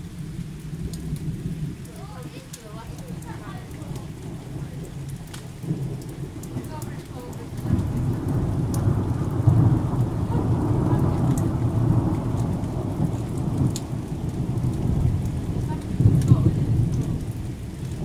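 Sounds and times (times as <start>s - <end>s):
sharp water drips: 0.0s - 18.0s
steady rain: 0.0s - 18.0s
thunder rumbling: 0.0s - 18.0s.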